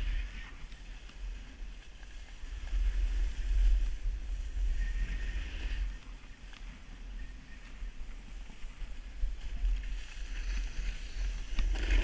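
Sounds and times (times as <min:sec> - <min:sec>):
snowboard scraping over snow: 0:00.0 - 0:12.0
wind buffeting microphone: 0:00.0 - 0:12.0.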